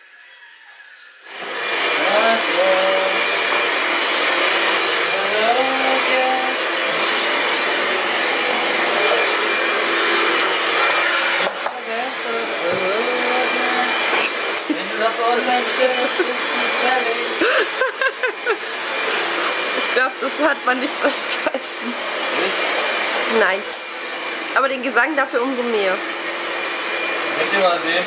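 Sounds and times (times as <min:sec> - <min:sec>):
vacuum cleaner running: 0:01.3 - 0:28.0.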